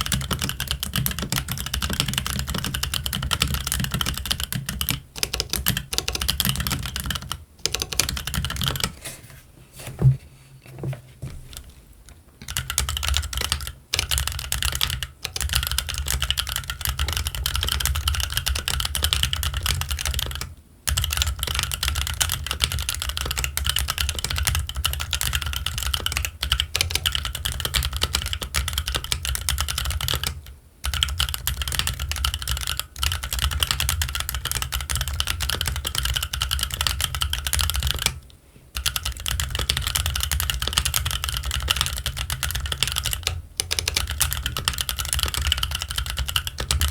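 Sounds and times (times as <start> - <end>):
mechanical keyboard typing: 0.0 - 9.0, 12.4 - 38.2, 38.8 - 46.9.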